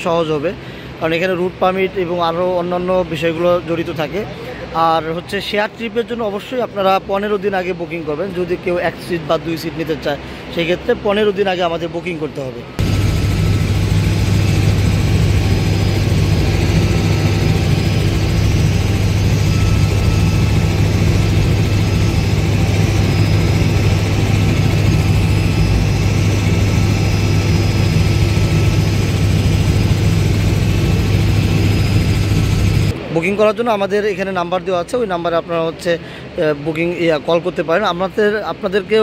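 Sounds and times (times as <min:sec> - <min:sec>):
helicopter rotor drone: 0:00.0 - 0:39.0.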